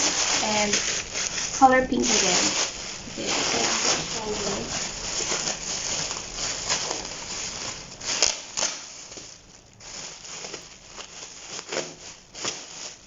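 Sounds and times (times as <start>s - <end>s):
clothing packaging rustling and crinkling: 0.0s - 13.0s.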